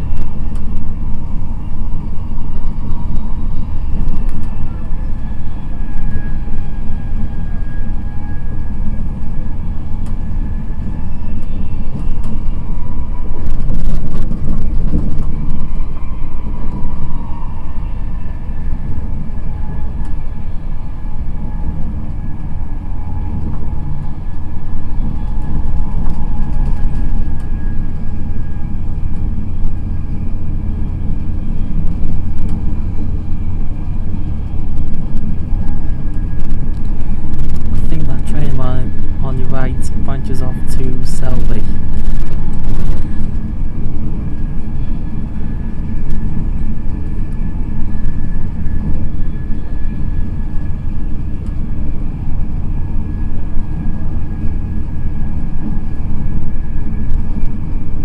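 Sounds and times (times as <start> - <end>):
faint steady whine: 0.0 - 58.0
train clatter: 0.0 - 58.0
train wheels rumbling on rails: 0.0 - 58.0.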